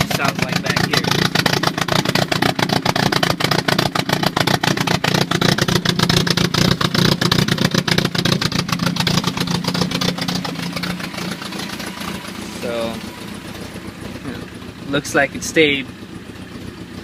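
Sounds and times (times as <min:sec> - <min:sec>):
car exhaust idling pulse: 0:00.0 - 0:17.0.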